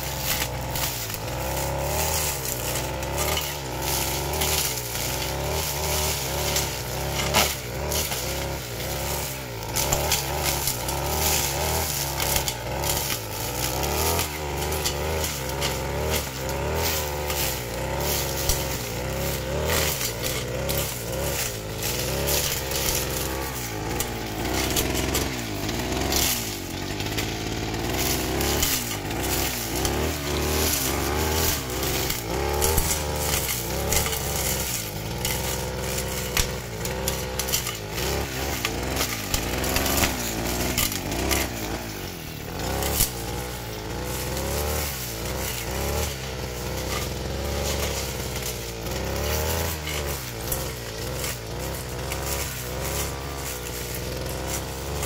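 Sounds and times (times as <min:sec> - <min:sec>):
brush cutter engine running: 0:00.0 - 0:55.0
debris ticking on cutter: 0:00.0 - 0:55.0.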